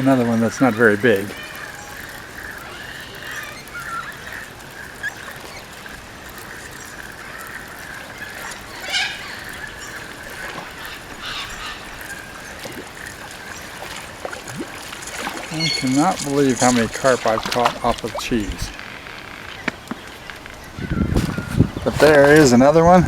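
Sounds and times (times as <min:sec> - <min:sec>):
steady background hiss: 0:00.0 - 0:20.8
birds calling: 0:00.0 - 0:23.0.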